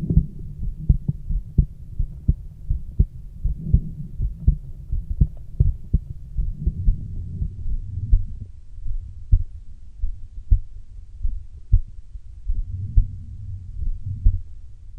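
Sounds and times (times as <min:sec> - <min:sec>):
heartbeat through stethoscope: 0:00.0 - 0:14.6
steady low rumble: 0:00.0 - 0:14.9.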